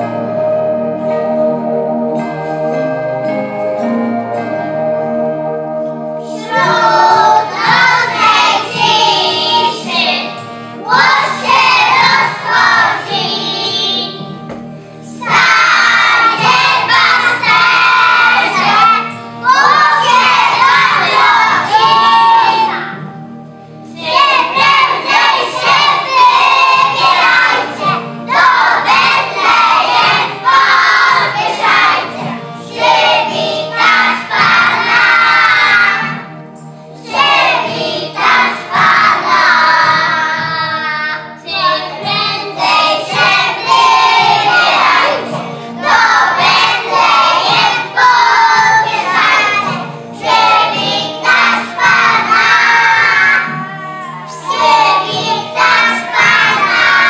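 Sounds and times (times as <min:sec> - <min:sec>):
musical accompaniment: 0:00.0 - 0:57.0
children singing: 0:06.2 - 0:23.1, 0:23.9 - 0:36.3, 0:36.9 - 0:57.0.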